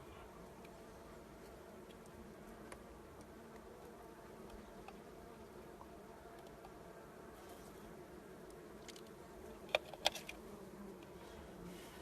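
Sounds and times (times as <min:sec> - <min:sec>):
bees buzzing: 0:00.4 - 0:12.0.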